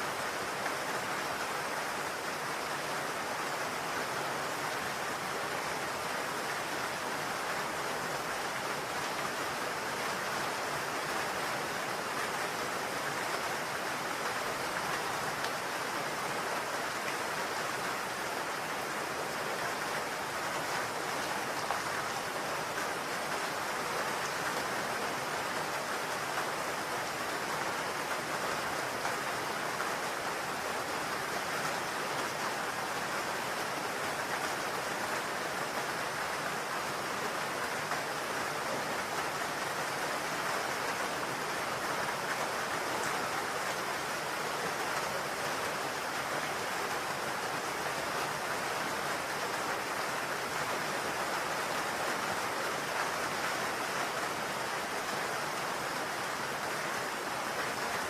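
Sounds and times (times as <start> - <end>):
rain drumming on a roof: 0.0 - 58.0.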